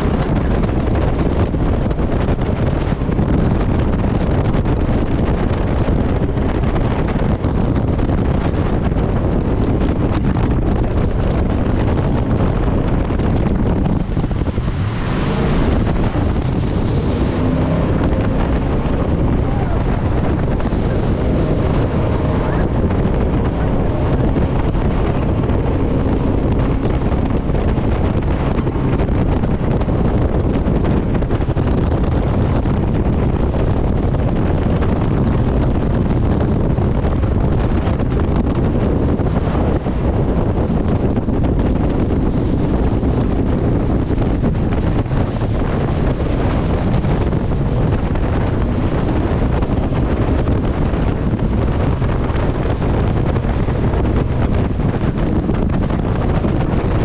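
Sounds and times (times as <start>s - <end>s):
jet boat engine: 0.0s - 57.0s
wind buffeting microphone: 0.0s - 57.0s.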